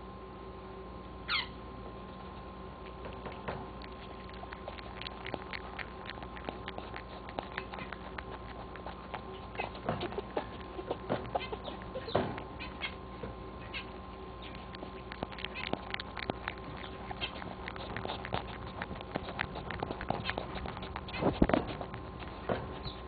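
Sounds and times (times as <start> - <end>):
steady electrical hum: 0.0 - 23.0
rabbit chewing: 1.3 - 23.0.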